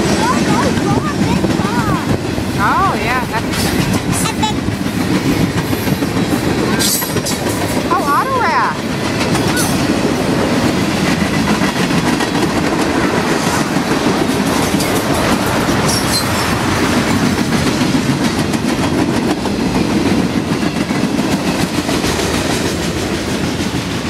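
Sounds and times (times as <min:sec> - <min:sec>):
steel wheels rumbling on rails: 0:00.0 - 0:24.0
wheels clacking over rail joints: 0:00.0 - 0:24.0.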